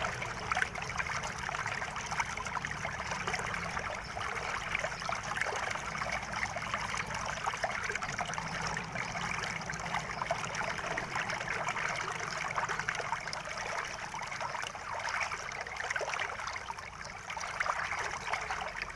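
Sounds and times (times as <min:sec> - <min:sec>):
shallow water trickling and splashing: 0:00.0 - 0:18.9.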